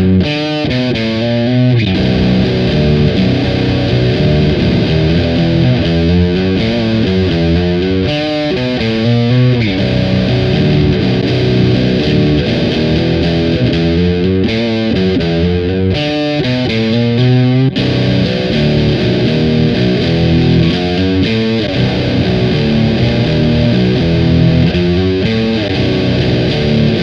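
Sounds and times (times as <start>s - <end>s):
distorted electric guitar riff: 0.0s - 27.0s.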